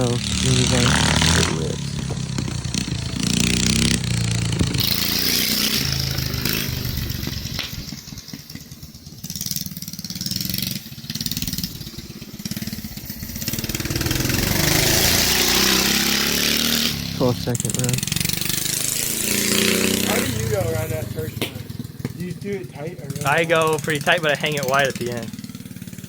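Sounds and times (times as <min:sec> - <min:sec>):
minibike engine revving: 0:00.0 - 0:26.0.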